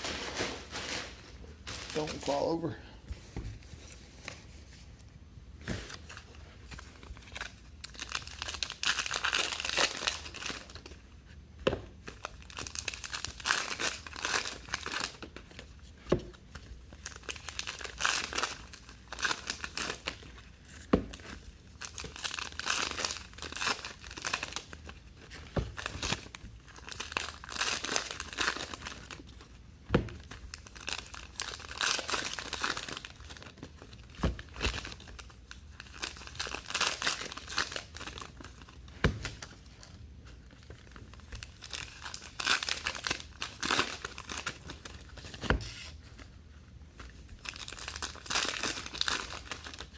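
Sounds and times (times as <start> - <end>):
card wrappers tearing and crinkling: 0.0 - 2.7, 5.7 - 11.0, 12.0 - 29.5, 30.2 - 46.3, 46.9 - 49.9.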